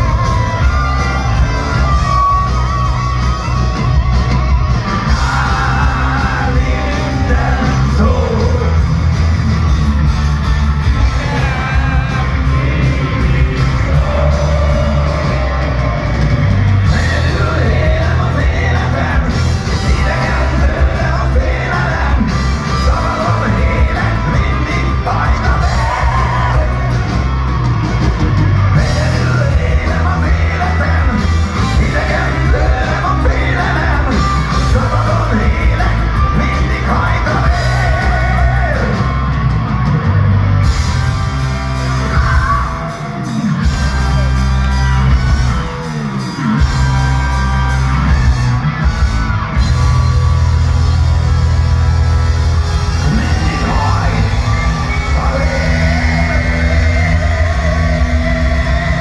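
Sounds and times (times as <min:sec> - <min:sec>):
drums: 0:00.0 - 0:59.0
electric guitars: 0:00.0 - 0:59.0
singer: 0:00.0 - 0:59.0.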